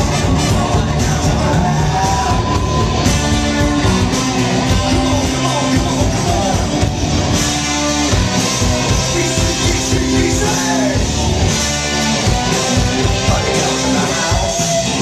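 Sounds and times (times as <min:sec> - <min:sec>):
electric guitar: 0:00.0 - 0:15.0
rock band playing: 0:00.0 - 0:15.0
steady drum beat: 0:00.0 - 0:15.0.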